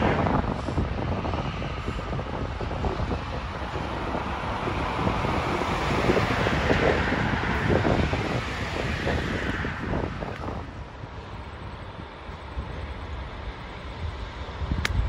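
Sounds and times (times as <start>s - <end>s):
diesel locomotives rumbling: 0.0s - 15.0s
wind buffeting microphone: 0.0s - 15.0s.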